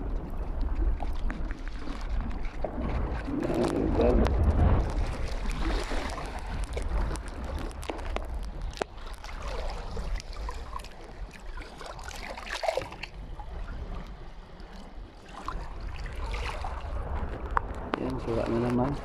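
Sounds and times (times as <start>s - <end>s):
water splashing and lapping: 0.0s - 19.0s
wind rumble on microphone: 0.0s - 19.0s.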